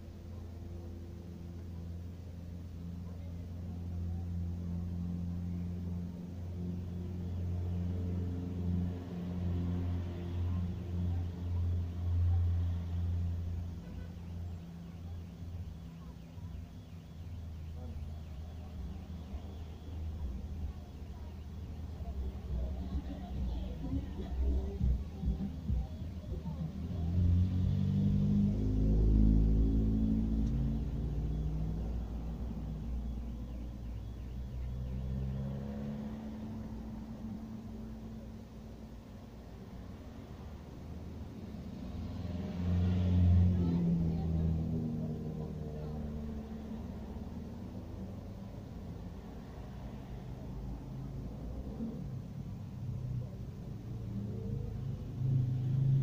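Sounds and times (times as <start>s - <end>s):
car driving slowly past: 0.0s - 56.0s
car engines running at low speed: 0.0s - 56.0s.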